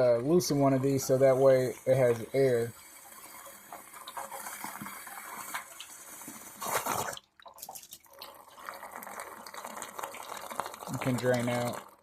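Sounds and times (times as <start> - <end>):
water running and dripping: 0.0 - 12.0.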